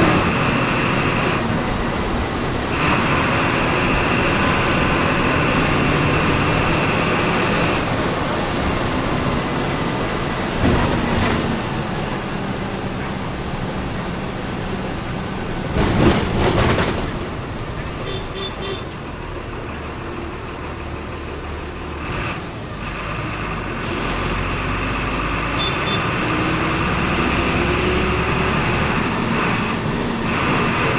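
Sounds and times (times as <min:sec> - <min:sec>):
bus engine running: 0:00.0 - 0:30.9.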